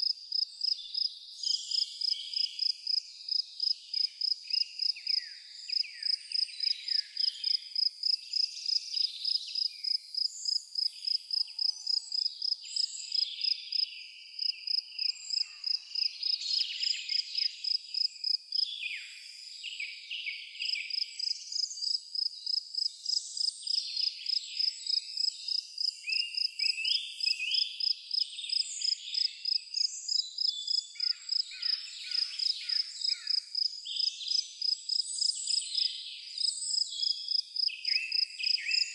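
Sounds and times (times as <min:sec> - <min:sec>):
cricket chirping: 0:00.0 - 0:19.6, 0:20.8 - 0:38.9
songbirds chirping and trilling: 0:00.0 - 0:38.9.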